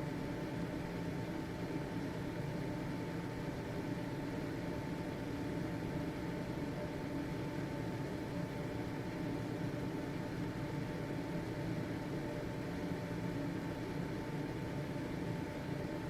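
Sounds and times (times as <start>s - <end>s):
ventilation fan running: 0.0s - 16.0s.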